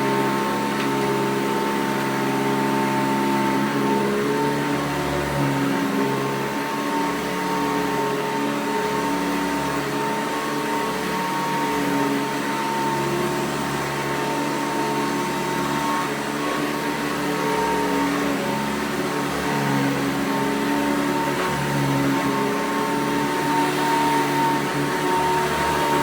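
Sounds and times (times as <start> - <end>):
vacuum cleaner running on carpet: 0.0 - 26.0.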